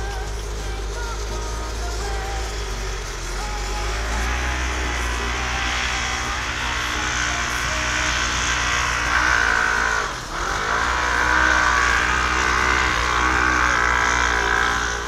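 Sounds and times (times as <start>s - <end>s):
car engine revving high: 0.0s - 15.0s
wheels spinning in snow: 0.0s - 15.0s.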